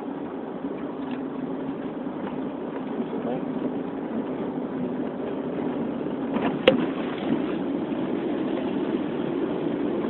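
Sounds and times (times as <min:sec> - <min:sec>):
road and engine drone in car: 0:00.0 - 0:10.0.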